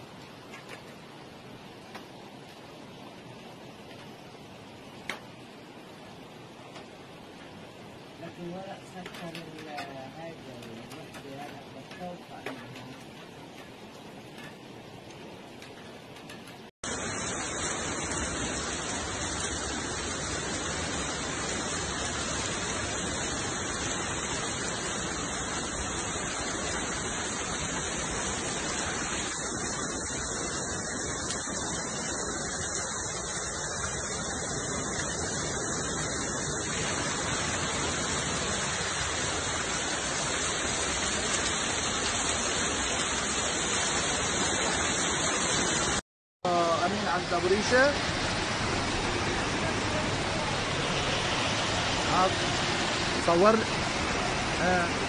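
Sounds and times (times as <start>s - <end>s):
hail and rain pouring down: 0.1s - 55.0s.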